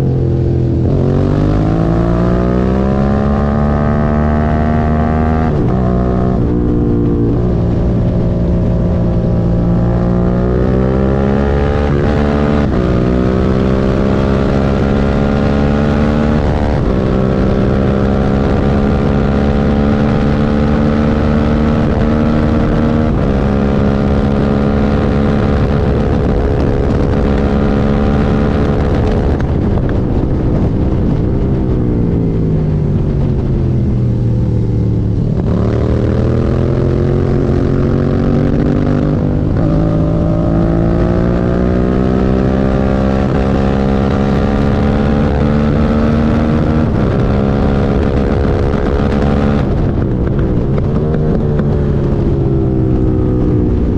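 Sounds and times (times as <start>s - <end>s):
motorcycle engine revving through gears: 0.0s - 53.9s.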